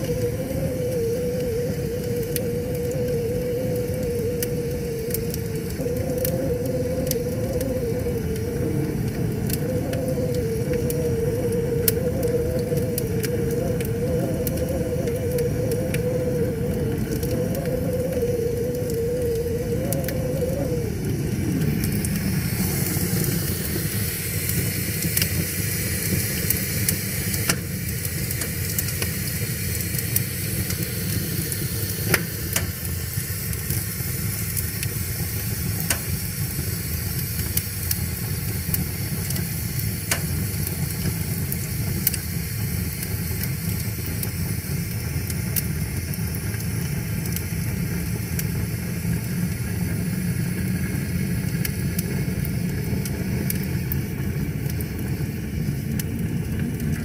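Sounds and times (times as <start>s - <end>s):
low rumble of flames: 0.0s - 57.0s
wood crackling and popping: 0.0s - 57.0s.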